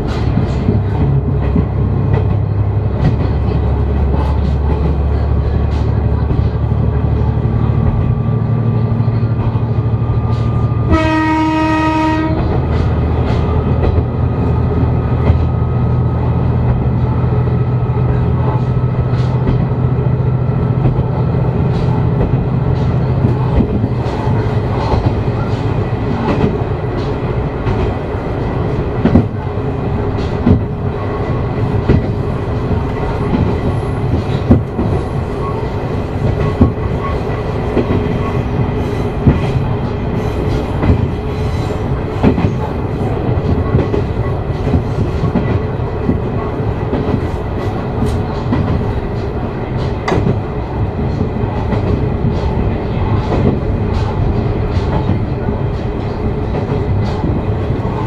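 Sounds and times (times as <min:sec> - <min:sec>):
train wheels clicking over rail joints: 0:00.0 - 0:11.2, 0:12.1 - 0:58.0
train rumble: 0:00.0 - 0:58.0.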